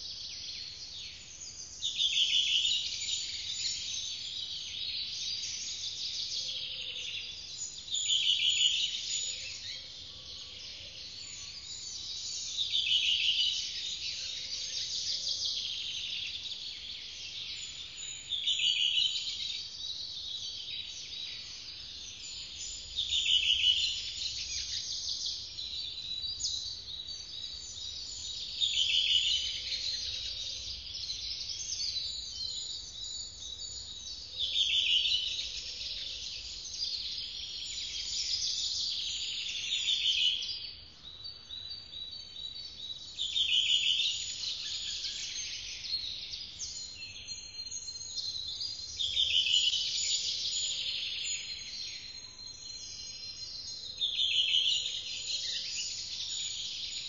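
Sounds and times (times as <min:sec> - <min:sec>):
bird song phrase: 0:00.0 - 0:57.0.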